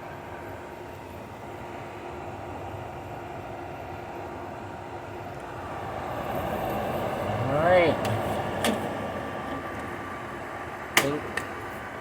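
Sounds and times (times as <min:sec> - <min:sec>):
dehumidifier fan running: 0:00.0 - 0:12.0.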